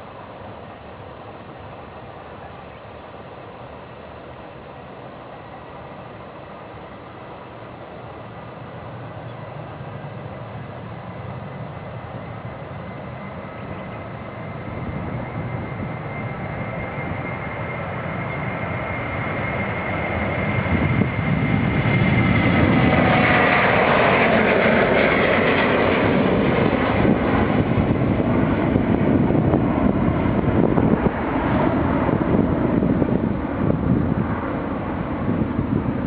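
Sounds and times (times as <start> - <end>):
jet engines passing by: 0.0 - 36.0.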